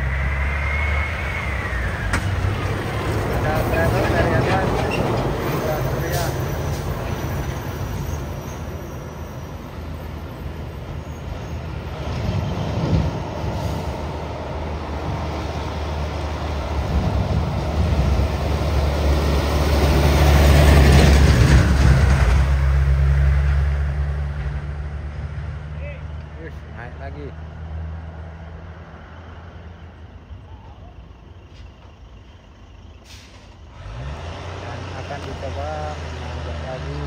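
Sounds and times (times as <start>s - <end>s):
diesel truck engine: 0.0s - 37.0s.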